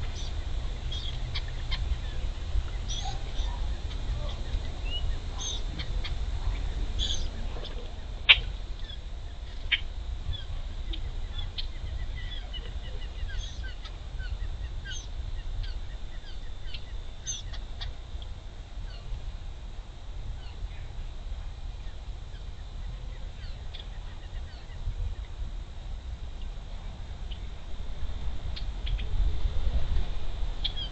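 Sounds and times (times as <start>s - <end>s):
birds chirping: 0.0s - 19.2s, 19.9s - 27.8s, 28.4s - 29.2s, 29.9s - 30.9s
steady low rumble: 0.0s - 30.9s.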